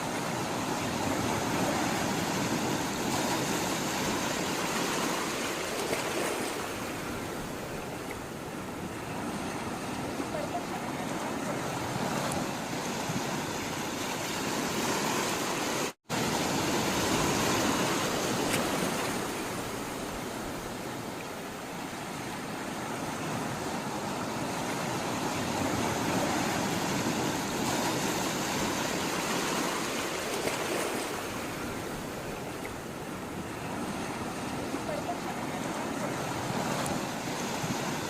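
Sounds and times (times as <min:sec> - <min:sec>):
sea water rushing: 0:00.0 - 0:38.0.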